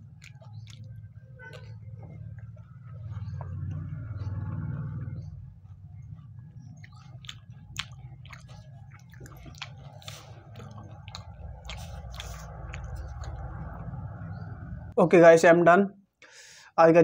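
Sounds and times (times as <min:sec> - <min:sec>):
lip smacks: 0:00.0 - 0:05.3, 0:06.0 - 0:14.4
person chewing food: 0:00.0 - 0:14.4
low hum: 0:00.0 - 0:15.0.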